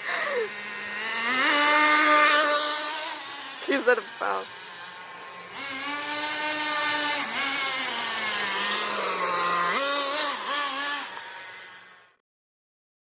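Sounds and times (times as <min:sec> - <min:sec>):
small engine at high revs: 0:00.0 - 0:12.2.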